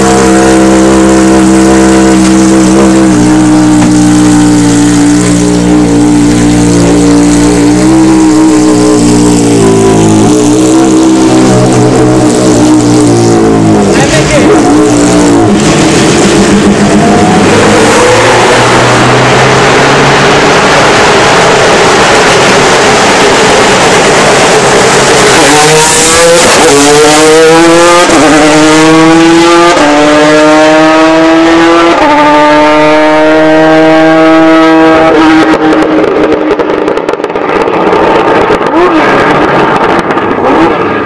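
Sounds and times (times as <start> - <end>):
race car engine passing: 0.0 - 36.3
engine upshifts: 0.0 - 41.0.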